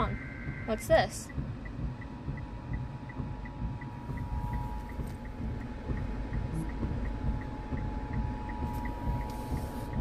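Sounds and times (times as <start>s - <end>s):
even ticking: 0.0s - 9.3s
low rumble: 0.0s - 10.0s.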